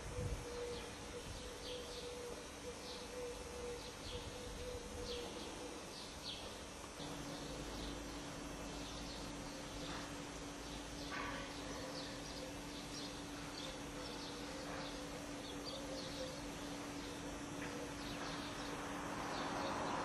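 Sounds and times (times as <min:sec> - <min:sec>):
camcorder hum and hiss: 0:00.0 - 0:20.0
small birds chirping: 0:00.5 - 0:20.0.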